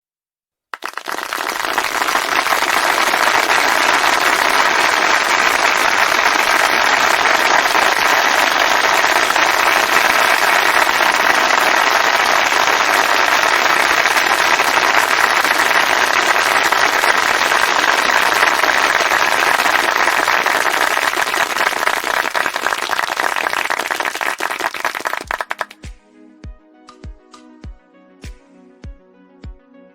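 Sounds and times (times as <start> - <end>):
crowd applause: 0.8 - 25.8.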